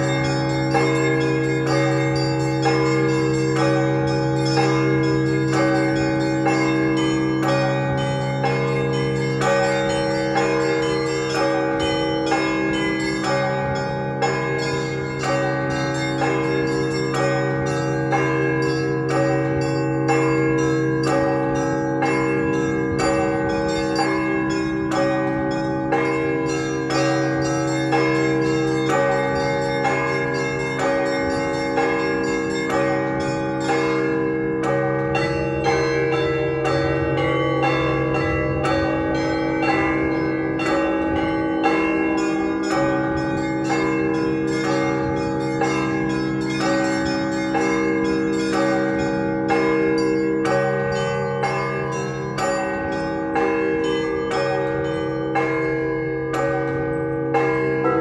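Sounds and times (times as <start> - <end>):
large low bells humming: 0.0 - 58.0
small high bells ringing: 0.0 - 58.0.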